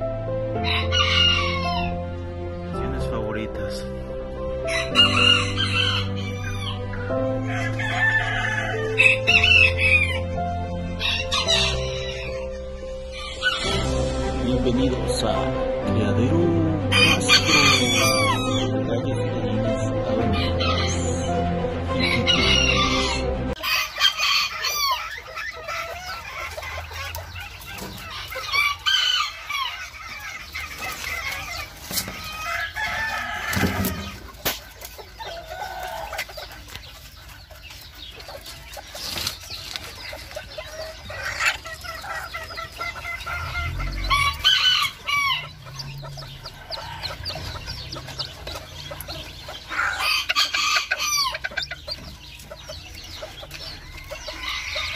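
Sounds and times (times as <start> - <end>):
chickens clucking: 0.0 - 15.5, 16.1 - 54.9
music: 0.0 - 54.9
roosters crowing: 0.5 - 2.4, 4.5 - 14.2, 16.8 - 18.8, 20.2 - 54.9.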